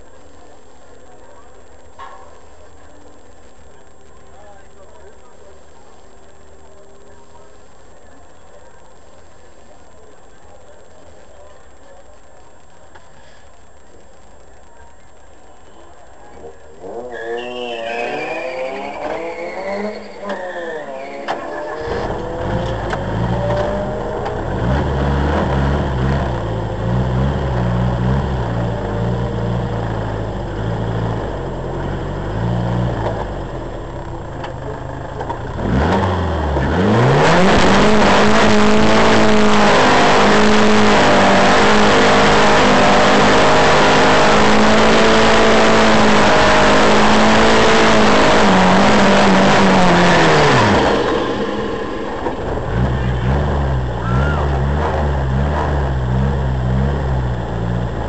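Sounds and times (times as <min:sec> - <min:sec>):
drag car engine revving: 0:00.0 - 0:58.0.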